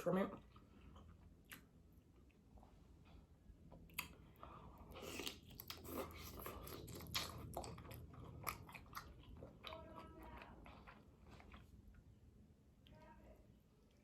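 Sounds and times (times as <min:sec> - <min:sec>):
person chewing and biting food: 0:00.4 - 0:12.1.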